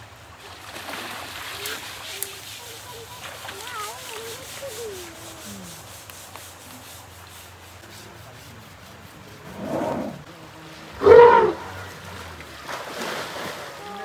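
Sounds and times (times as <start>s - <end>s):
scrubbing strokes on elephant hide: 1.3s - 14.0s.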